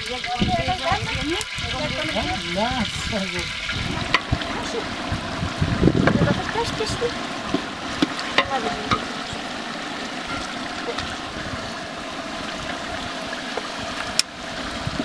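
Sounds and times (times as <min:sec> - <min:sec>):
sauce bubbling in a pot: 0:00.0 - 0:15.0.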